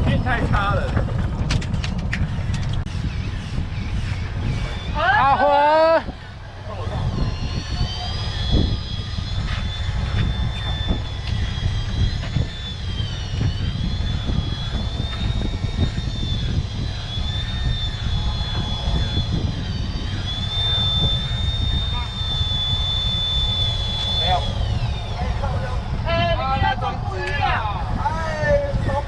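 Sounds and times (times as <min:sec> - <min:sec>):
boat engine rumbling: 0:00.0 - 0:05.4, 0:06.0 - 0:29.0
high engine whine: 0:00.0 - 0:29.0.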